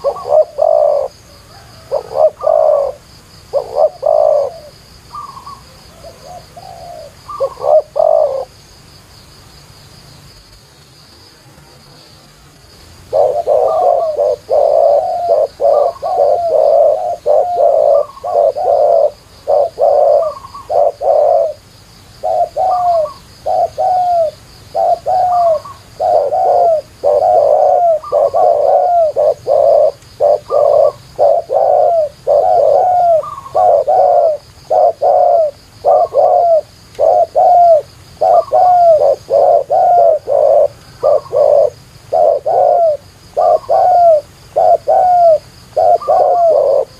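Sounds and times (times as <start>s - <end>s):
doves cooing: 0.0s - 8.6s, 13.0s - 46.9s.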